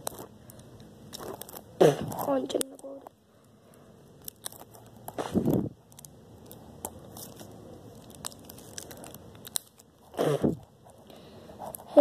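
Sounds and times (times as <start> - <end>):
plastic packaging crackling: 0.0 - 3.1, 4.1 - 12.0.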